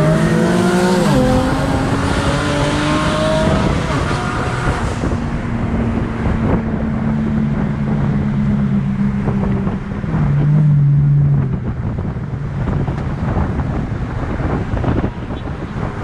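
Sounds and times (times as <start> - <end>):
car engine droning: 0.0 - 16.0
wind buffeting the microphone: 0.0 - 16.0.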